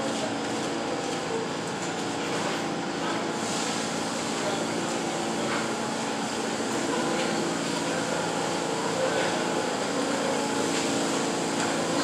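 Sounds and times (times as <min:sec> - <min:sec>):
subway car equipment humming: 0:00.0 - 0:12.0.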